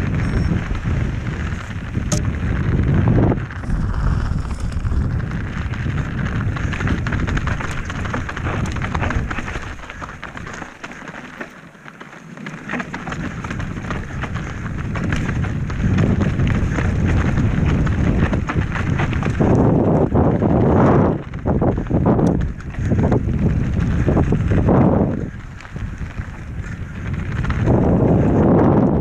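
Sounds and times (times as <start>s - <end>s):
wind buffeting microphone: 0.0s - 11.3s, 12.6s - 29.0s
bike tyres rolling over trail: 0.0s - 29.0s.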